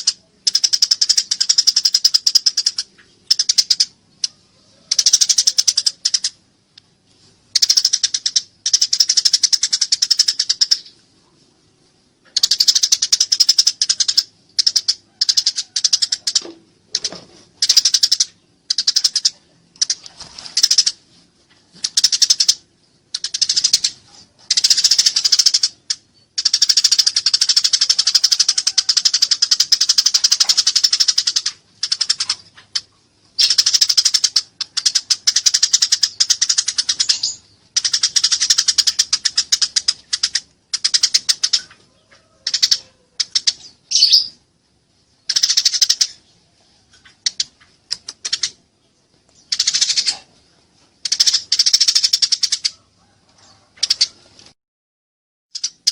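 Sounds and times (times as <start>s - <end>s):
sparrow chirping chatter: 0.0s - 6.4s, 7.5s - 11.0s, 12.3s - 20.0s, 21.7s - 44.4s, 45.1s - 54.2s.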